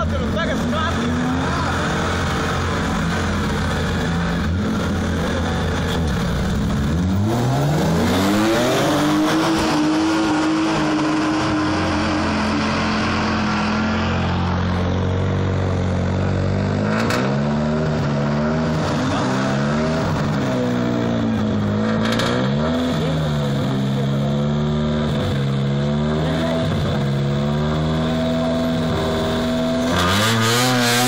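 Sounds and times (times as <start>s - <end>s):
car engine revving: 0.0s - 31.0s
car engines accelerating: 0.0s - 31.0s.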